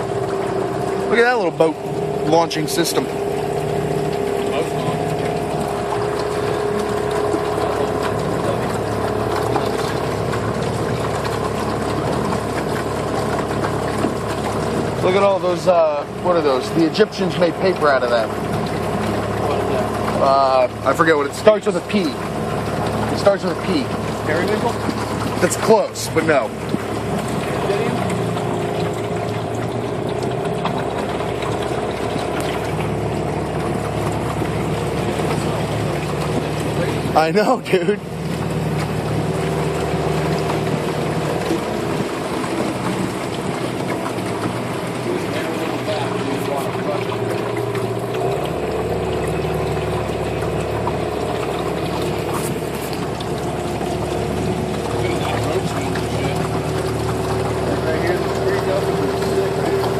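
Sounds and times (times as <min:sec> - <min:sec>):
engine running at low speed: 0:00.0 - 0:59.9.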